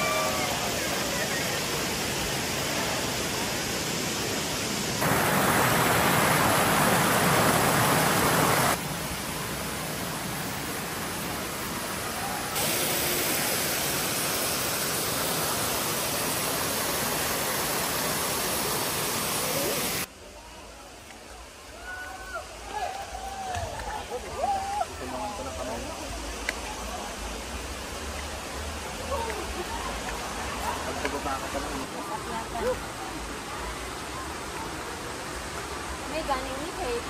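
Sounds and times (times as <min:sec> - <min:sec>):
waterfall rushing water: 0:00.0 - 0:37.0.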